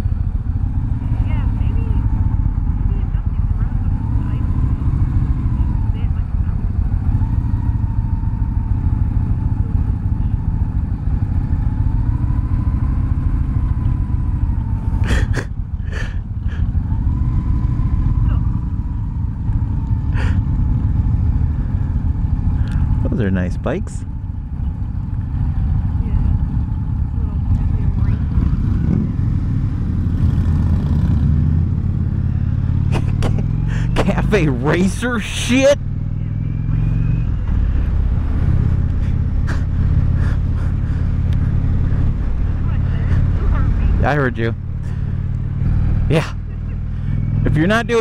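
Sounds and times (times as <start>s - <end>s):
motorcycles idling: 0.0s - 48.0s.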